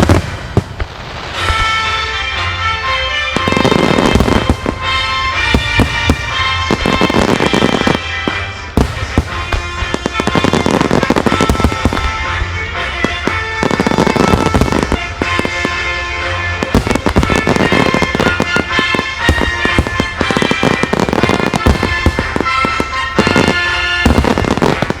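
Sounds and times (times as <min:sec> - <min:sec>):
fireworks booming and crackling: 0:00.0 - 0:25.0
loud music: 0:00.0 - 0:25.0.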